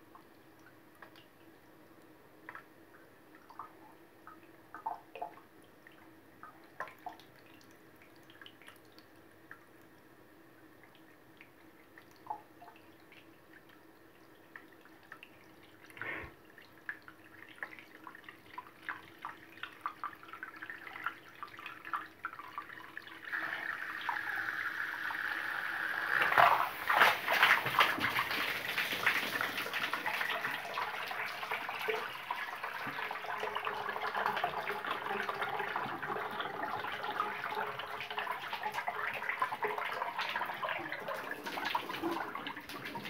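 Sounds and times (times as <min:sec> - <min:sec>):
water dripping into a sink: 0:00.0 - 0:25.3, 0:26.1 - 0:43.0
water trickling: 0:00.0 - 0:43.0.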